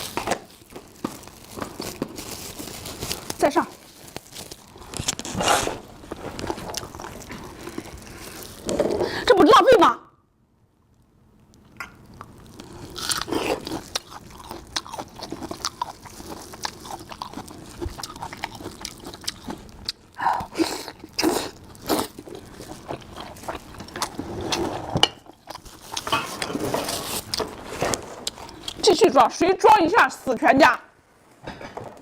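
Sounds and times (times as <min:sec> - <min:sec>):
person chewing food: 0:00.0 - 0:09.0, 0:11.5 - 0:28.8.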